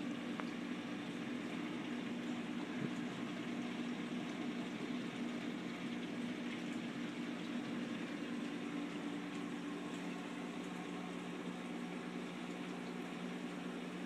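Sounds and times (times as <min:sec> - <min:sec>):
bubbling circulating water: 0:00.0 - 0:14.0
low steady hum: 0:00.0 - 0:14.0.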